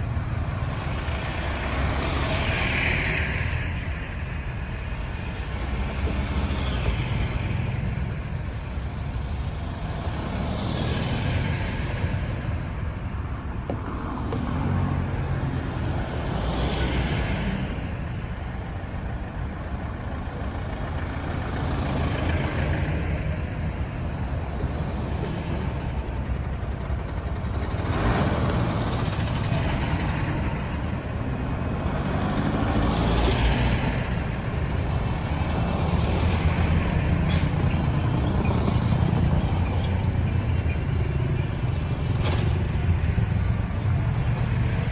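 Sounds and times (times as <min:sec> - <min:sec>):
traffic rumble: 0:00.0 - 0:44.9
vehicles passing: 0:00.0 - 0:44.9.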